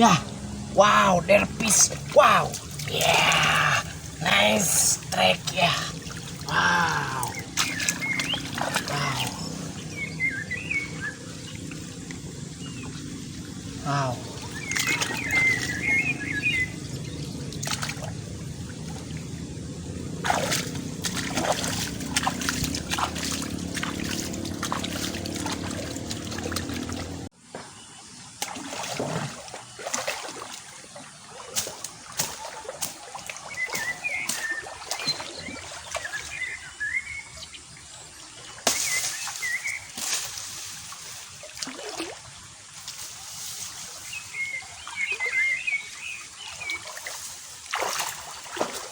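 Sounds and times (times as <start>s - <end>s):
shallow water splashing: 0.0s - 27.3s, 28.4s - 36.8s, 37.6s - 48.9s.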